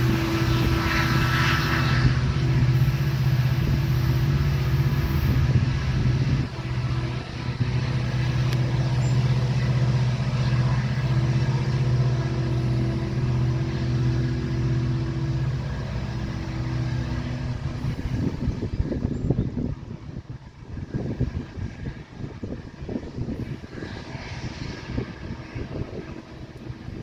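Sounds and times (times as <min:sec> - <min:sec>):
higher steady hum: 0:00.0 - 0:27.0
locomotive engine drone: 0:00.0 - 0:27.0.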